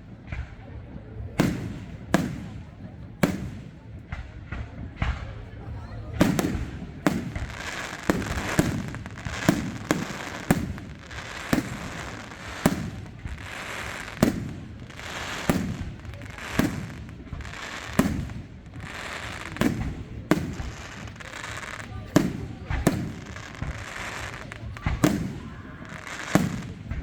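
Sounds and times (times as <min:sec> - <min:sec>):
fireworks crackling and hiss: 0:00.0 - 0:27.0.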